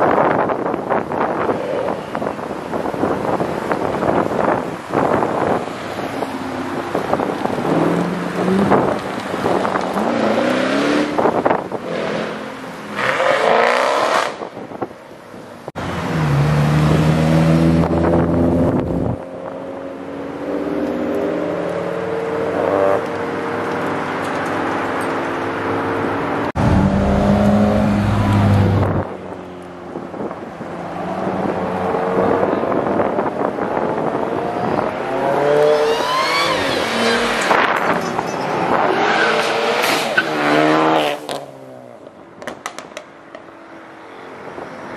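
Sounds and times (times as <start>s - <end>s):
cars accelerating hard: 1.2s - 14.6s, 15.8s - 29.1s, 29.7s - 41.9s.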